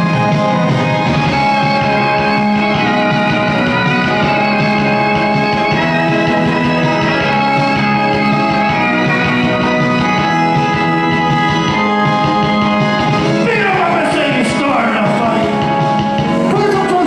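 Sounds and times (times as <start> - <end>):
live song with held chords: 0.0 - 17.0.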